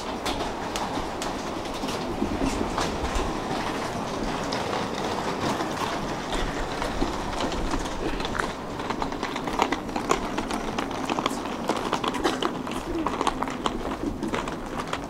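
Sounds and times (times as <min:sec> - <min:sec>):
footsteps on paving: 0:00.0 - 0:15.0
tram humming: 0:00.0 - 0:15.0.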